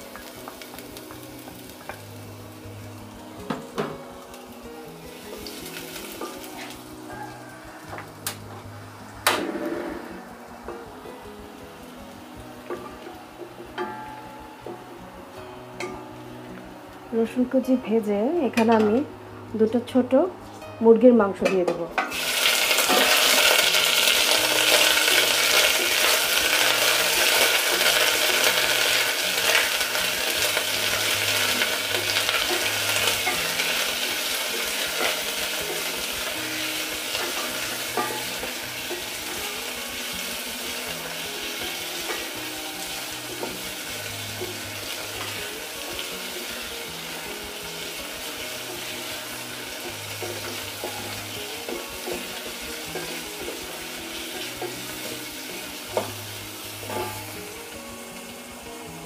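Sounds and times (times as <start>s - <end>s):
chicken sizzling in hot oil: 0.0s - 14.6s, 22.0s - 59.0s.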